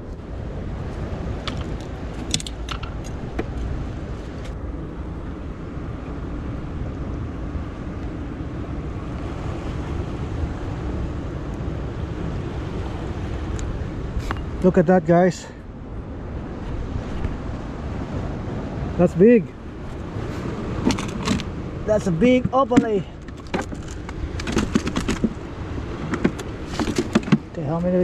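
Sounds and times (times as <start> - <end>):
surf against rocks: 0.0 - 15.7, 16.3 - 28.0
wind rumble on microphone: 0.0 - 28.0.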